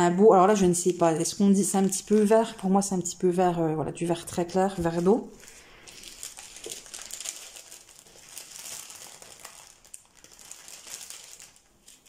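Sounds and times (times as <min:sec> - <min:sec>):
plastic packaging crinkling: 0:00.9 - 0:03.1, 0:04.5 - 0:12.0.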